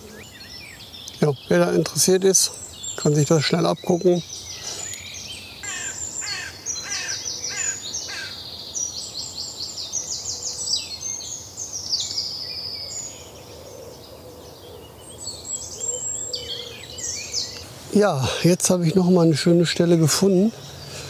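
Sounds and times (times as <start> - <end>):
songbirds trilling: 0.0 - 21.0.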